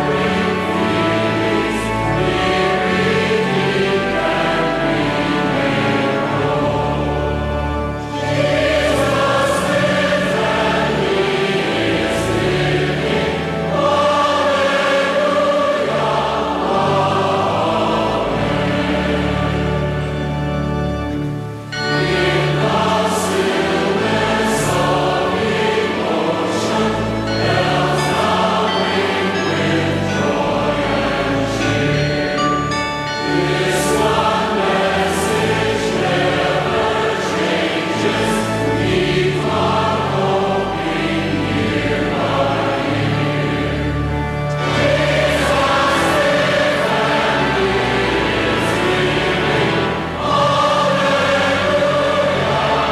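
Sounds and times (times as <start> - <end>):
choir singing with accompaniment: 0.0 - 52.9.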